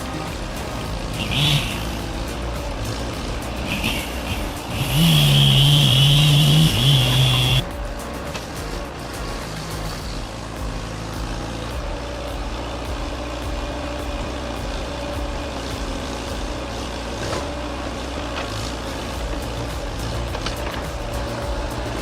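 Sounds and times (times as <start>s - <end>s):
heavy machine engine rumbling: 0.0s - 22.0s.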